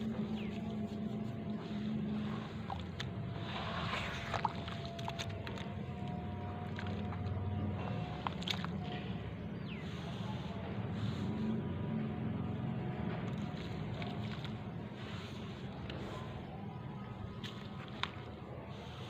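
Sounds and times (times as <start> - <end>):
hands kneading wet mud in water: 0.0 - 19.0
steady low rumble: 0.0 - 19.0.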